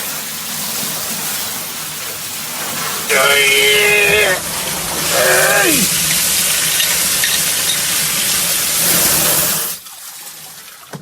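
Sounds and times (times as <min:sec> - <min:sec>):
water spraying hiss: 0:00.0 - 0:09.9.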